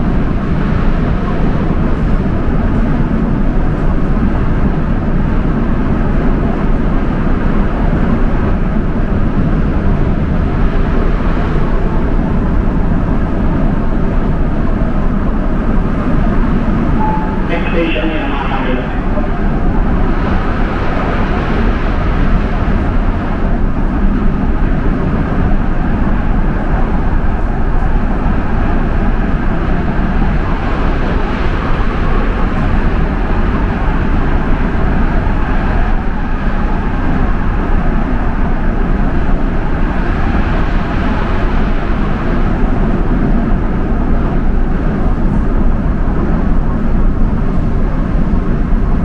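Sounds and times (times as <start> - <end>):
train running rumble inside carriage: 0.0 - 49.0.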